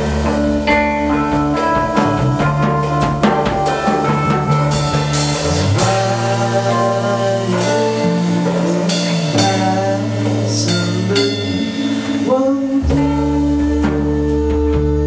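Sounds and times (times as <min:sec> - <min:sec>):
deep bass line: 0:00.0 - 0:15.0
psychedelic rock band playing: 0:00.0 - 0:15.0.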